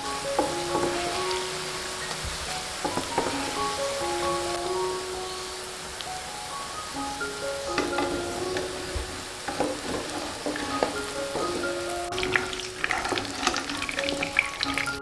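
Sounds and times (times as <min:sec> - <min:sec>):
soft background music: 0:00.0 - 0:15.0
tofu sizzling in oil: 0:00.1 - 0:05.7, 0:06.9 - 0:15.0.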